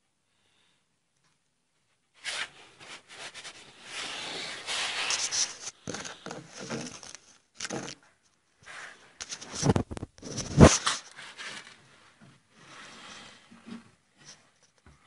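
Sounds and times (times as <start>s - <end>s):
rustling and scraping: 2.2s - 15.0s.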